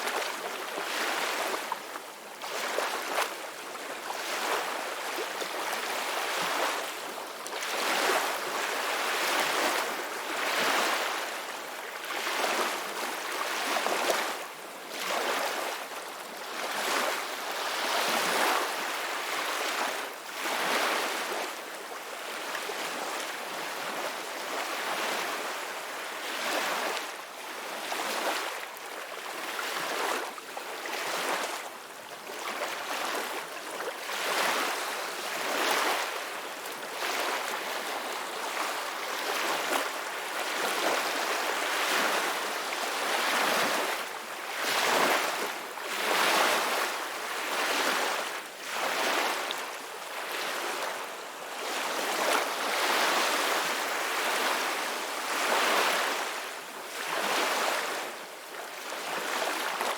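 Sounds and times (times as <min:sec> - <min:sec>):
waves breaking and washing in: 0:00.0 - 0:59.9.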